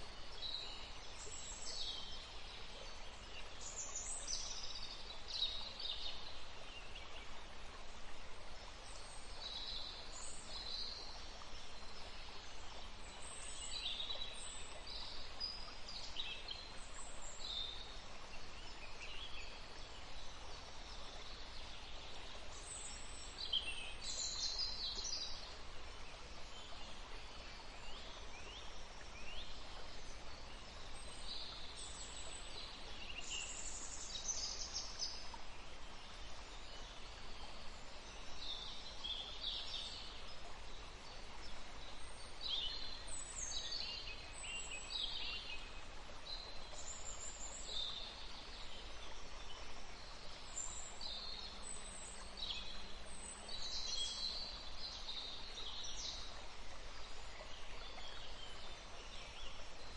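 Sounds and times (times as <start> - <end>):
soft background hiss: 0.0 - 59.9.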